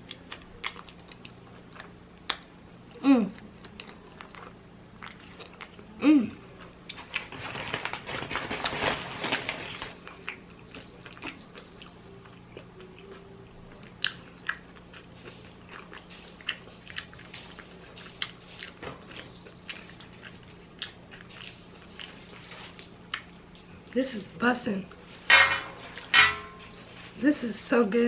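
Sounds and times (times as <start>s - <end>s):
person chewing food: 0.0s - 8.8s, 9.8s - 23.8s.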